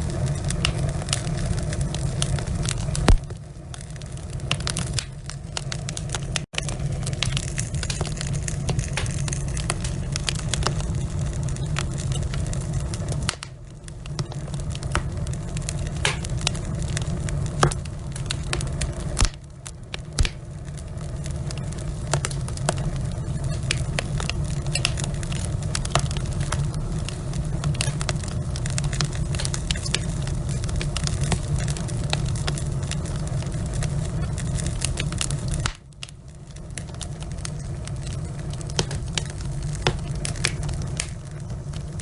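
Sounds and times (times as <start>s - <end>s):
log fire crackling and popping: 0.0s - 42.0s
low fire rumble: 0.0s - 42.0s.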